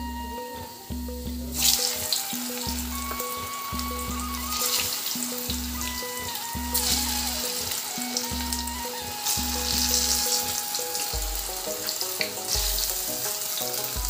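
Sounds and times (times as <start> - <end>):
background music: 0.0 - 14.0
food sizzling in hot oil: 0.4 - 14.0.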